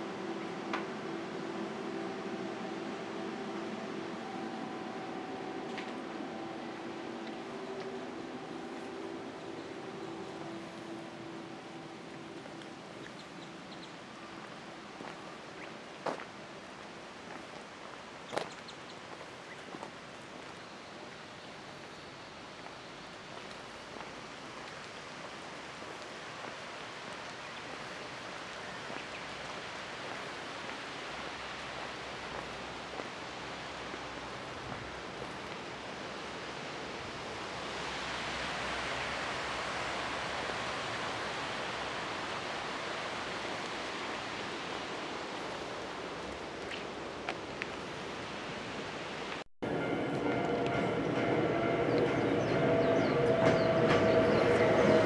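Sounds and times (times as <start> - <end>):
steady rushing background noise: 0.0 - 55.0.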